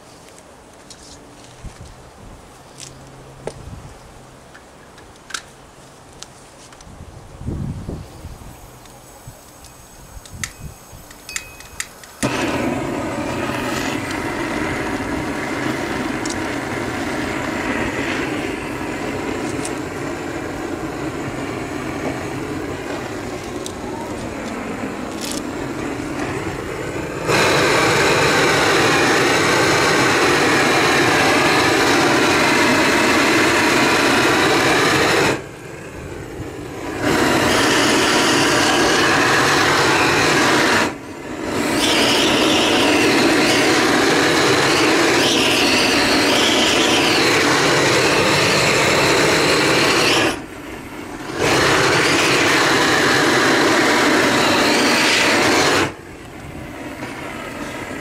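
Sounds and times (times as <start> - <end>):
roofing torch flame blowing: 0.0 - 58.0.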